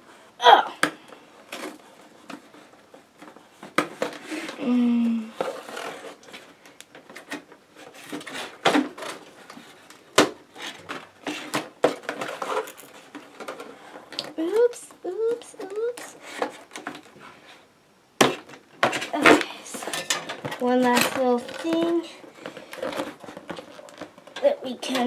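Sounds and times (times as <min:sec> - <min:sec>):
cardboard rustling: 0:01.4 - 0:25.0.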